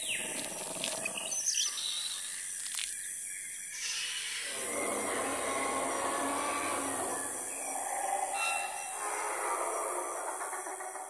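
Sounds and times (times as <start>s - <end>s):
bird calls and chirps: 0.0s - 11.0s
high insect chirring: 0.0s - 11.0s.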